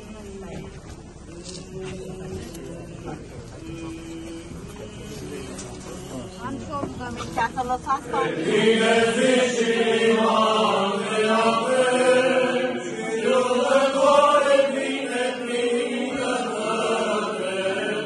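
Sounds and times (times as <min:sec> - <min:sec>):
voices singing slow chant: 0:00.0 - 0:18.0.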